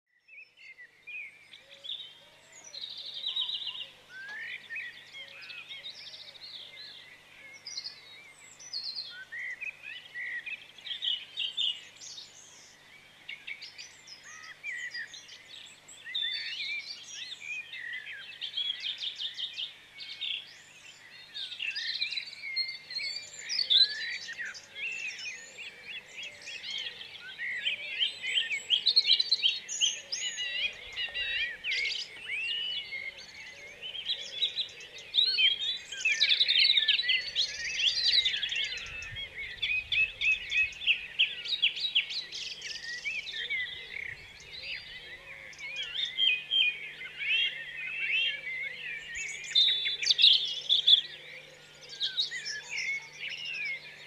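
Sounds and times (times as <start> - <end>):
songbirds chorus: 0.1 - 54.0.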